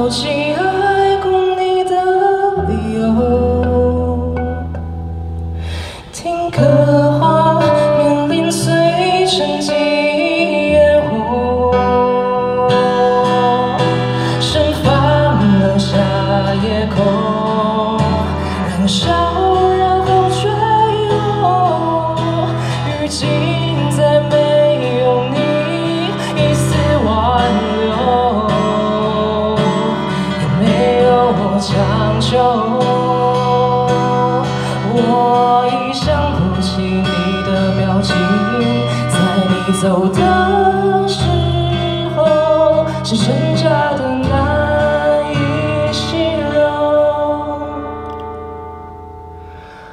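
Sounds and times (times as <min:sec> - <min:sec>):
man singing into microphone: 0:00.0 - 0:04.8, 0:05.7 - 0:48.4
acoustic guitar: 0:00.0 - 0:49.9.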